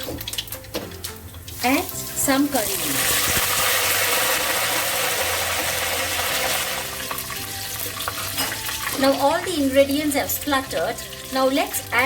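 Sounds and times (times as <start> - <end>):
seeds sizzling in hot oil: 0.0 - 12.0.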